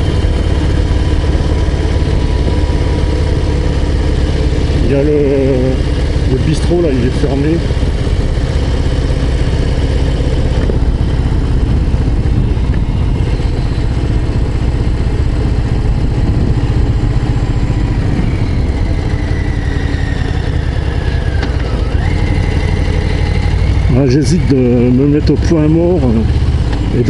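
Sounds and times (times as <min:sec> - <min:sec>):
motorcycle engine at low revs: 0:00.0 - 0:27.0.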